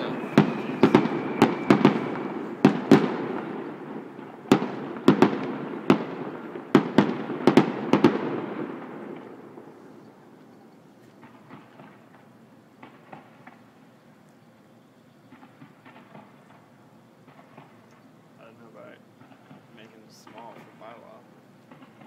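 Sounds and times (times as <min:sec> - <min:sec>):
fireworks bangs: 0:00.0 - 0:13.8, 0:15.3 - 0:22.0
crackling rumble: 0:00.0 - 0:22.0.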